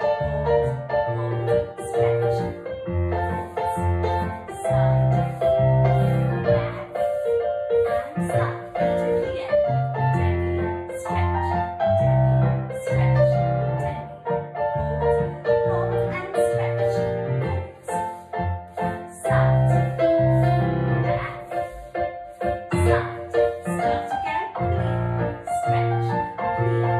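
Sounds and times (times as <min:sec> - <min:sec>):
piano melody over held chords: 0:00.0 - 0:26.9.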